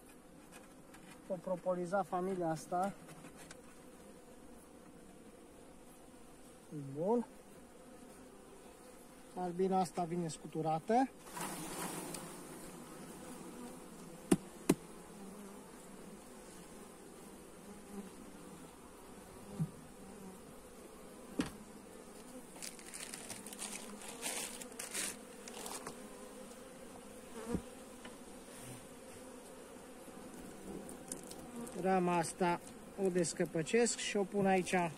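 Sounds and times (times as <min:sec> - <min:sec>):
honeybees buzzing: 0:00.0 - 0:34.9.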